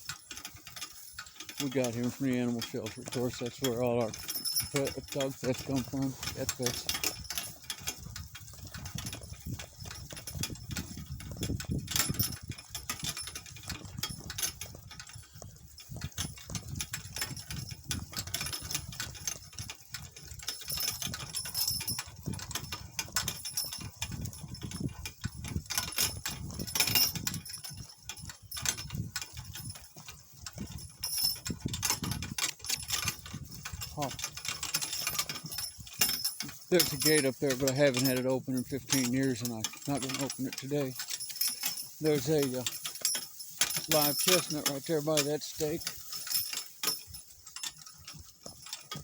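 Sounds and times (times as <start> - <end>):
cart and harness rattling: 0.0 - 49.0.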